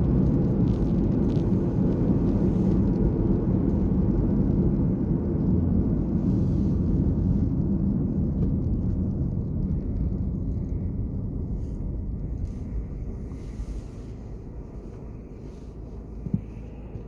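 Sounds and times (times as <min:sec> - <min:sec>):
road vehicle rumble: 0:00.0 - 0:17.0.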